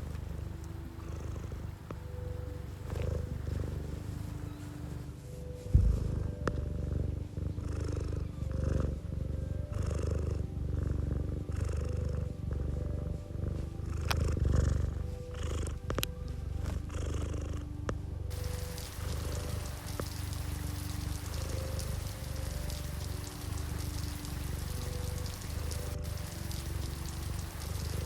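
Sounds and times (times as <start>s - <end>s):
cat purring: 0.0s - 28.0s
soft background music: 0.0s - 28.0s.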